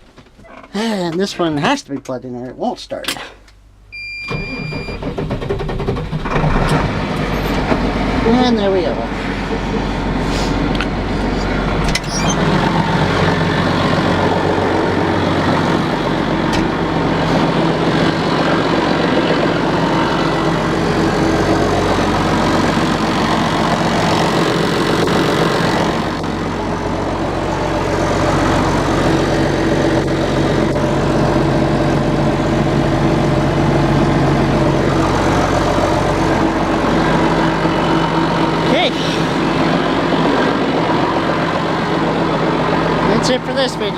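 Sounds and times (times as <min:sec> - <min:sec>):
tractor diesel engine idling: 0:07.3 - 0:43.9.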